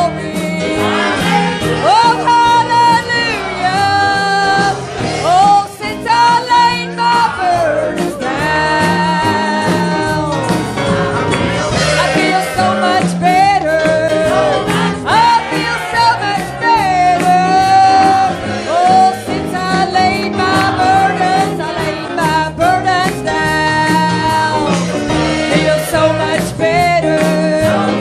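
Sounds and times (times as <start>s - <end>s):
church band playing: 0.0s - 28.0s.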